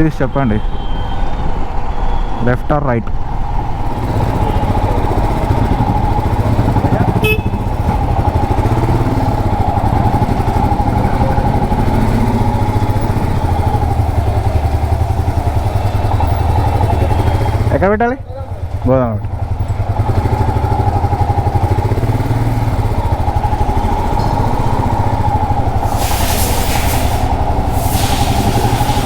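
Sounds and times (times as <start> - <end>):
city traffic: 0.0 - 29.0
motorcycle engine running: 3.4 - 29.0.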